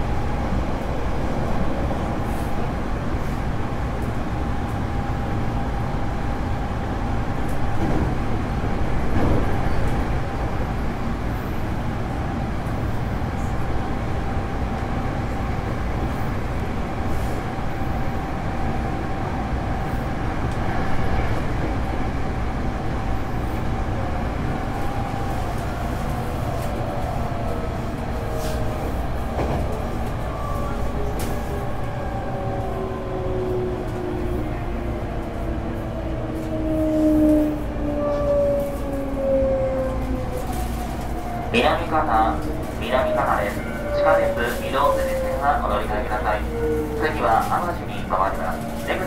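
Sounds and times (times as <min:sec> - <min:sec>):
train running rumble: 0:00.0 - 0:49.0.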